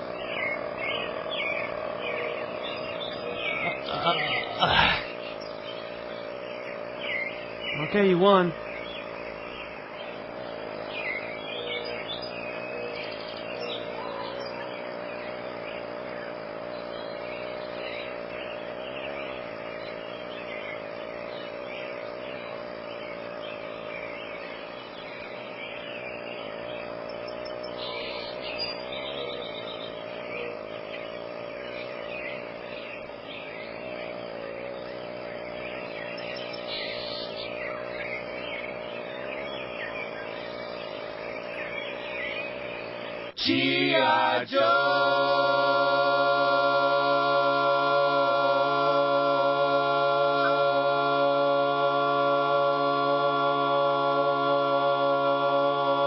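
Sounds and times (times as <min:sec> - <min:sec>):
bird chirps: 0:00.0 - 0:56.0
insect drone: 0:00.0 - 0:56.0.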